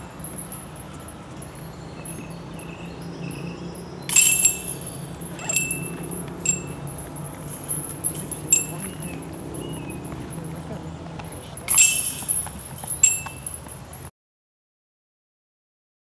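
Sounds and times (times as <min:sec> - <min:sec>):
disc striking chains: 0:00.0 - 0:10.8, 0:11.4 - 0:14.1
light metallic clinks: 0:00.0 - 0:14.1.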